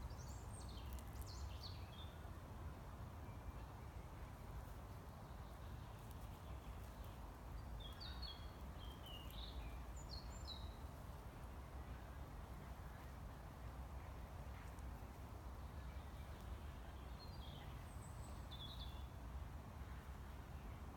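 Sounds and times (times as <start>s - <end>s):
songbird chirping: 0.0s - 13.4s, 14.0s - 20.9s
low outdoor background rumble: 0.0s - 20.9s.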